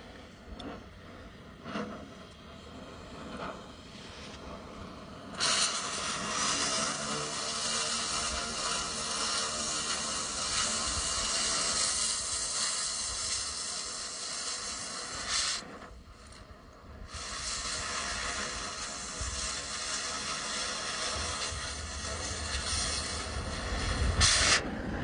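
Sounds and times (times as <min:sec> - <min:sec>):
cutting torch hissing: 0:00.0 - 0:25.0.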